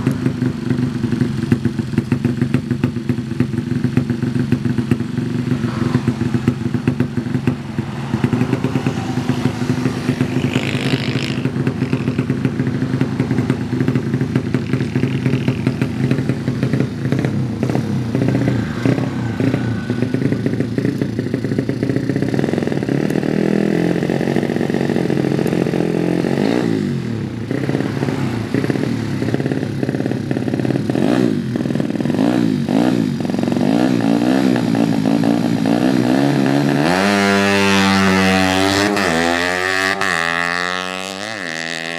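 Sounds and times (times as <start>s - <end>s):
motorcycle engine running and revving: 0.0s - 41.9s.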